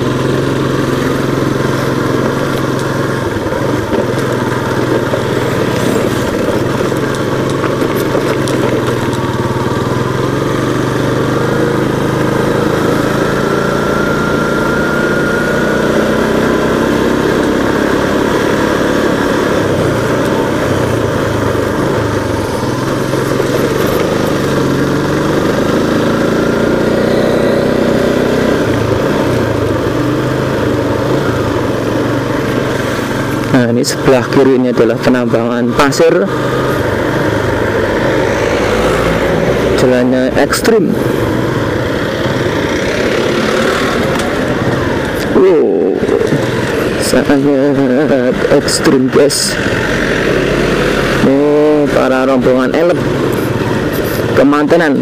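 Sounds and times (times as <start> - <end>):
road and wind noise: 0.0 - 55.0
vehicle engine running: 0.0 - 55.0
high rising whine: 9.2 - 55.0.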